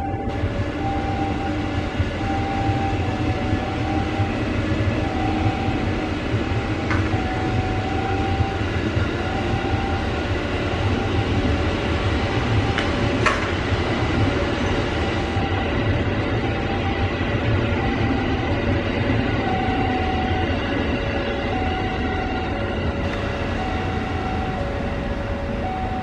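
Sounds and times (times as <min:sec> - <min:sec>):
faint pitched whine: 0:00.0 - 0:26.0
train rolling past: 0:00.0 - 0:26.0.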